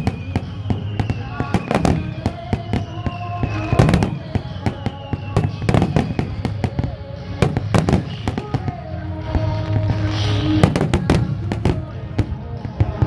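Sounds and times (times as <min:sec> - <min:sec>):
fireworks bursting: 0:00.0 - 0:13.0
music with long held notes: 0:00.0 - 0:13.0.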